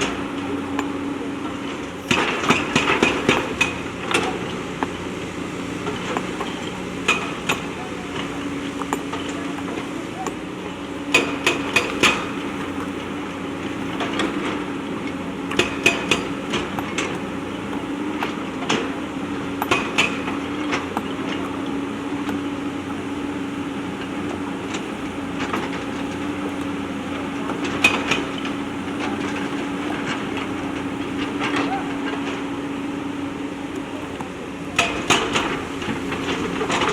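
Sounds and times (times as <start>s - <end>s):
diesel engine running under load: 0.0s - 36.9s.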